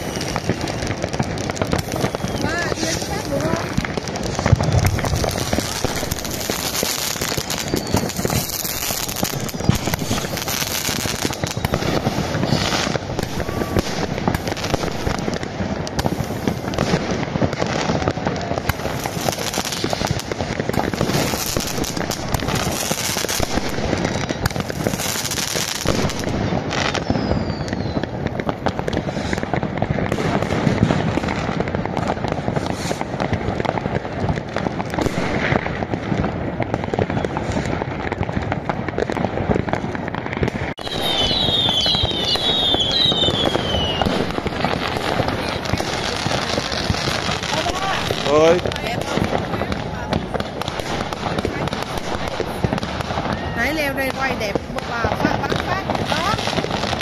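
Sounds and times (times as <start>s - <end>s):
faint firework whistles: 0.0s - 33.4s, 36.7s - 38.2s, 40.1s - 49.2s, 50.0s - 57.0s
firecrackers crackling: 0.0s - 57.0s.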